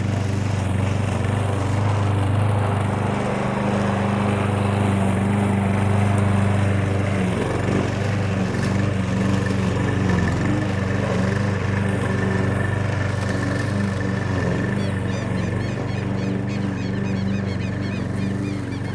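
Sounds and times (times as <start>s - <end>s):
lawn mower engine running: 0.0s - 18.9s.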